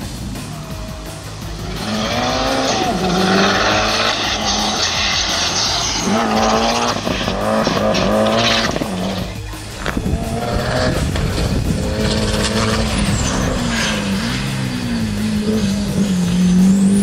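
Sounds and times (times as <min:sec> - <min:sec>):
race car engine revving: 0:00.0 - 0:17.0
tyres rushing on tarmac: 0:00.0 - 0:17.0.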